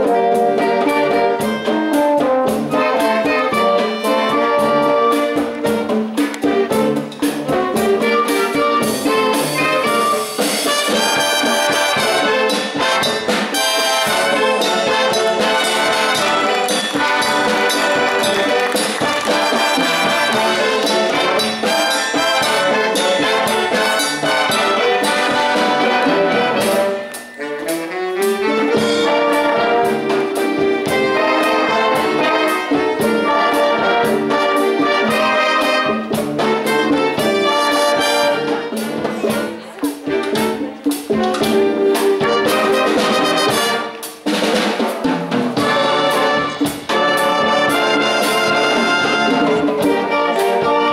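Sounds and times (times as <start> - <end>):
drum kit steady beat: 0.0 - 50.9
wind band playing dance music: 0.0 - 50.9.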